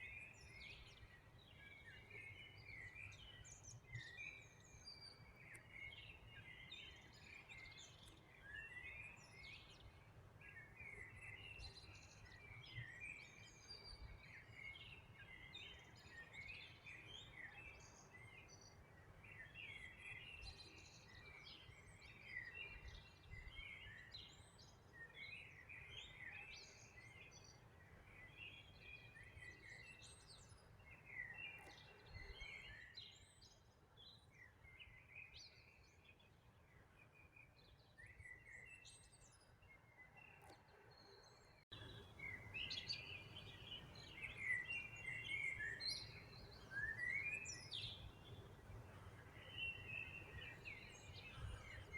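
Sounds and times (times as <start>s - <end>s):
small songbirds chirping and trilling: 0.0s - 51.9s.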